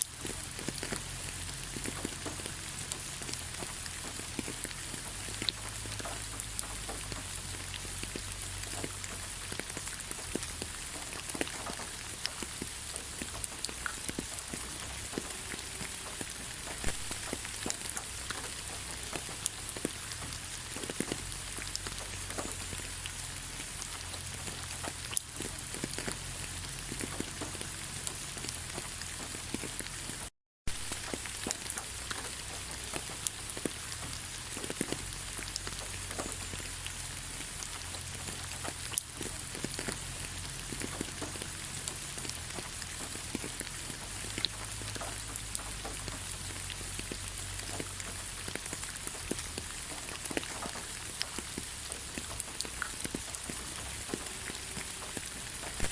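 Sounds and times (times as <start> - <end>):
raindrops ticking: 0.0 - 55.9
steady rain hiss: 0.0 - 55.9.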